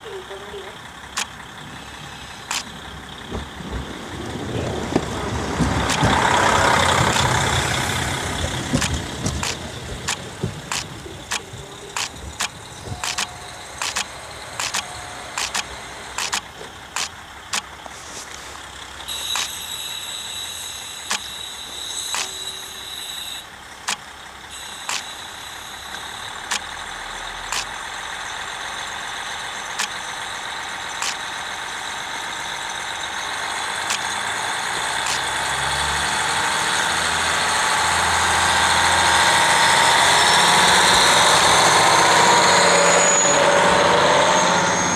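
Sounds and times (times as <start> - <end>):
railcar wheels clicking over rail joints: 0.0 - 44.9
high-pitched brake squeal: 3.7 - 16.4, 18.0 - 44.9.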